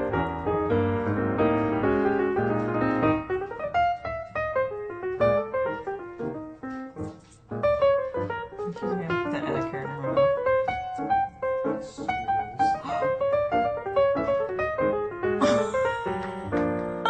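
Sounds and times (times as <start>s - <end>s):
light piano melody: 0.0s - 17.0s.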